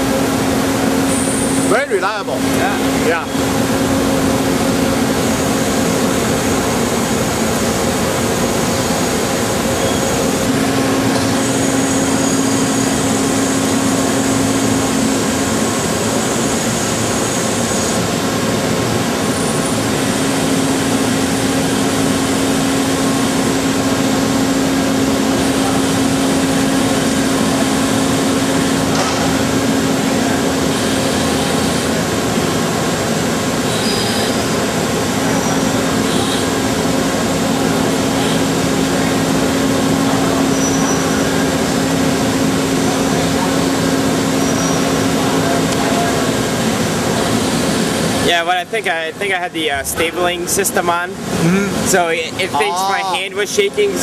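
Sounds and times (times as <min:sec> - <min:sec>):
high machine whine: 0:00.0 - 0:54.0
lathe running with hum: 0:00.0 - 0:54.0.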